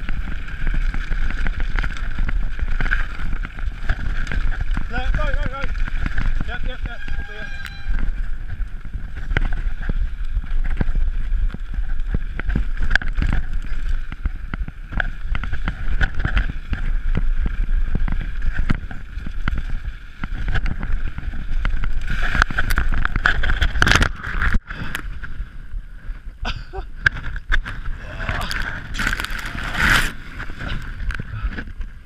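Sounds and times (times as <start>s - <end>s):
bike rattling over gravel: 0.0s - 32.0s
wind buffeting microphone: 0.0s - 32.0s.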